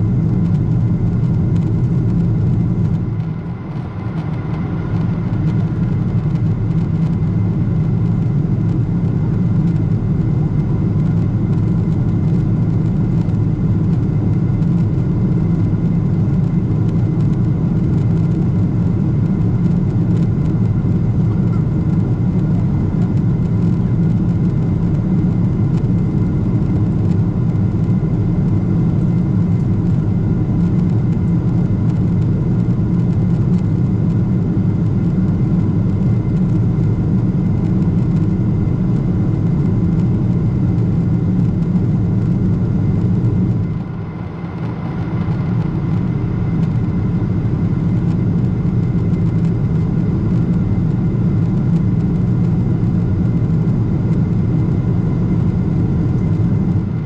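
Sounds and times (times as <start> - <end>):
aircraft engines and airflow rumble: 0.0 - 57.0
faint steady whine: 0.0 - 57.0.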